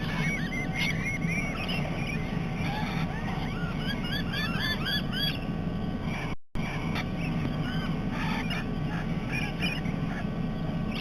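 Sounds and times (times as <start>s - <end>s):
parrots calling: 0.0s - 11.0s
steady low hum: 0.0s - 11.0s.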